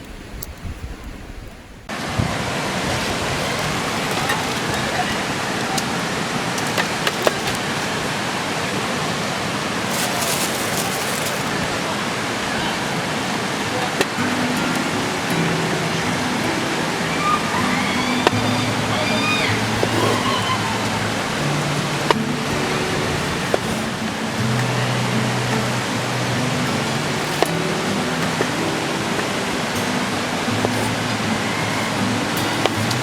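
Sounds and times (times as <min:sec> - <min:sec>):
river water flowing: 0:01.9 - 0:33.0.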